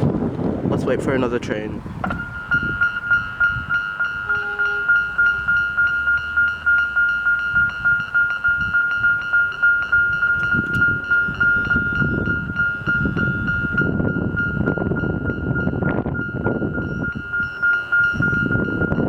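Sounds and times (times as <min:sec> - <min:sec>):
low rumble: 0:00.0 - 0:19.0
electronic level-crossing bell: 0:02.1 - 0:19.0.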